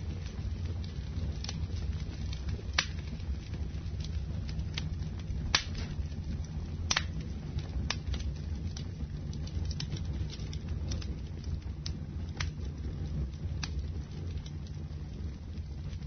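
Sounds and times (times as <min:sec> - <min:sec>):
fire crackling: 0:00.0 - 0:16.0
flames rumbling: 0:00.0 - 0:16.0
logs popping: 0:00.2 - 0:14.8.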